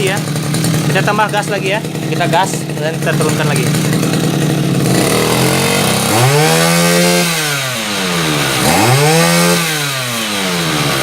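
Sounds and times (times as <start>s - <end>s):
two-stroke brush cutter revving: 0.0s - 11.0s.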